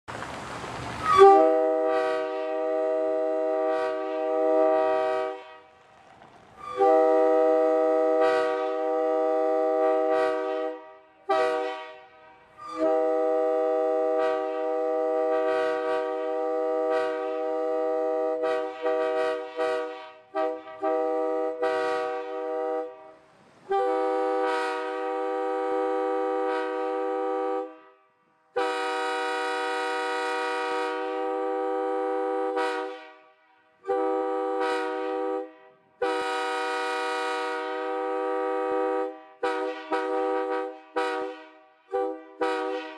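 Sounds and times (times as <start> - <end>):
locomotive air horn blasts: 1.0 - 5.8, 6.6 - 42.9.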